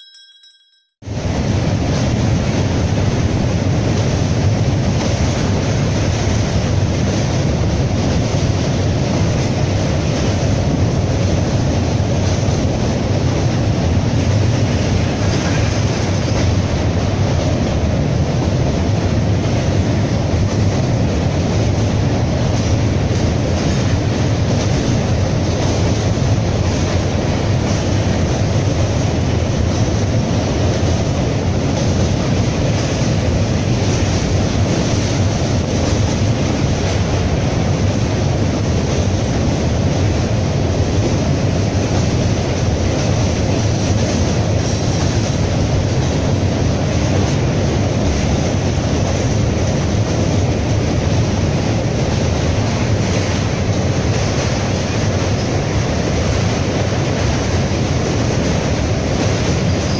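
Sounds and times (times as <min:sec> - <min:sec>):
train wheels rumbling on rails: 0:01.0 - 0:59.9.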